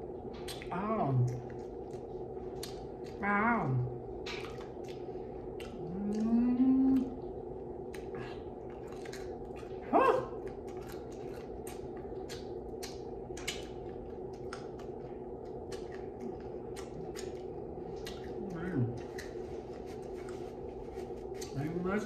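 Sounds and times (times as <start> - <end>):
steady background hum: 0.0 - 22.0
person chewing and lip smacking: 0.2 - 22.0.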